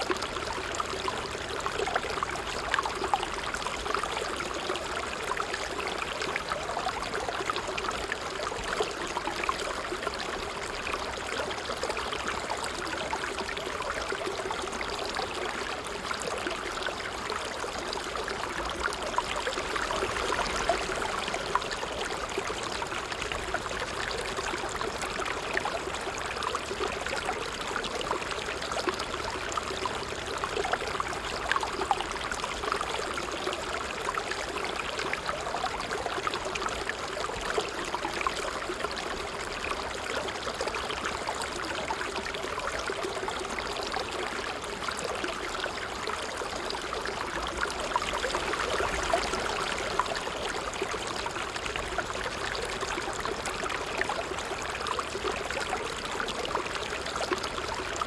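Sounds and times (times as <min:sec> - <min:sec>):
water trickling over stones: 0:00.0 - 0:58.0.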